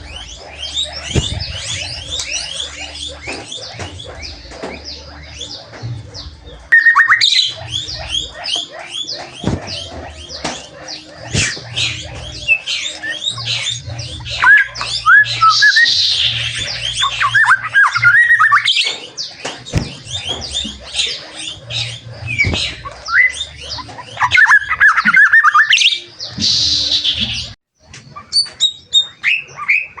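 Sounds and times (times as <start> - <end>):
bird singing chirps and whistles: 0.0 - 30.0
harsh rasping bird notes: 0.0 - 30.0.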